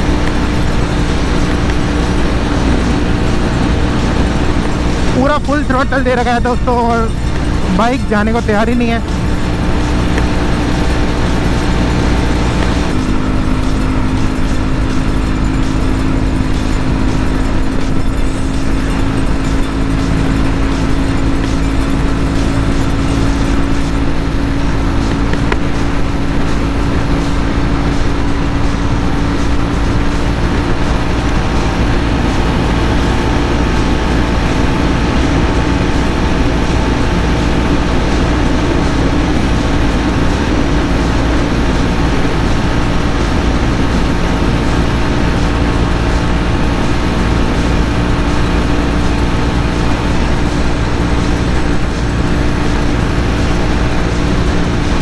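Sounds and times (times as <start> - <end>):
motorcycle engine running flat out: 0.0 - 55.0.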